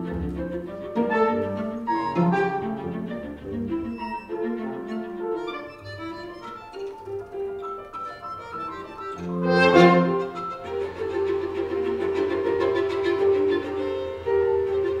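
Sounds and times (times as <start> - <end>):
chamber ensemble music over loudspeakers: 0.0 - 15.0.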